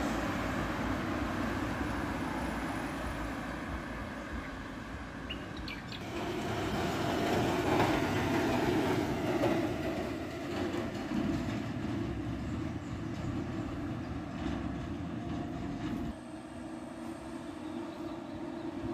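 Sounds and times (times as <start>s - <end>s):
diesel truck driving past: 0.0s - 18.9s
road traffic passing: 0.0s - 18.9s.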